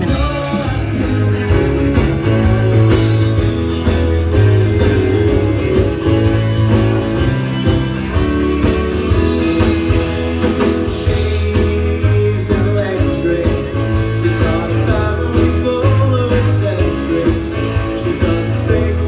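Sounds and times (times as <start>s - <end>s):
bass line: 0.0s - 19.0s
live rock band: 0.0s - 19.0s.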